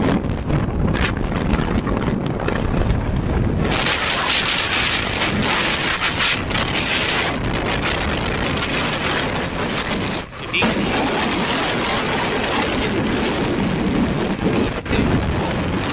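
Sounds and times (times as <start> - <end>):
road noise: 0.0 - 15.9
wind buffeting microphone: 0.0 - 15.9.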